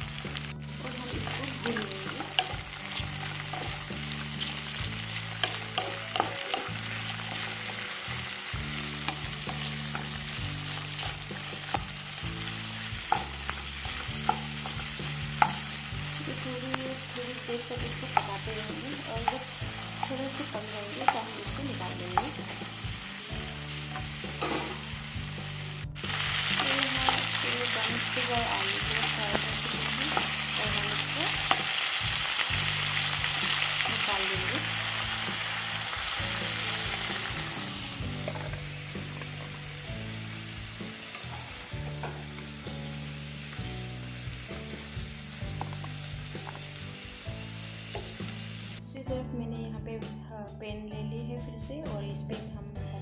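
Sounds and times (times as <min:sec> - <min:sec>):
vegetables sizzling in hot oil: 0:00.0 - 0:48.8.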